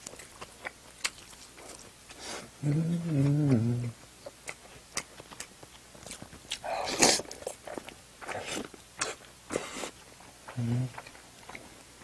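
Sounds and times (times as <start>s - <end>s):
chewing with wet mouth noises: 0.0s - 12.0s.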